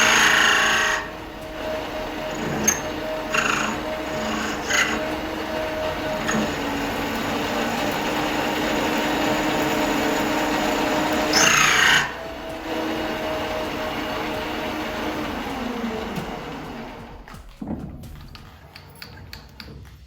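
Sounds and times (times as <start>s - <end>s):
harsh cutting burst: 0.0s - 17.2s
metal lathe motor hum: 0.0s - 17.3s.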